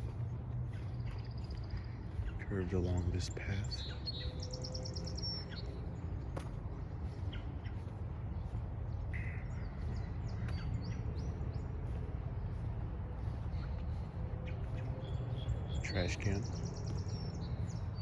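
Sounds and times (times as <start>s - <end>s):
steady low rumble: 0.0s - 18.0s
wild birds chirping: 0.0s - 18.0s.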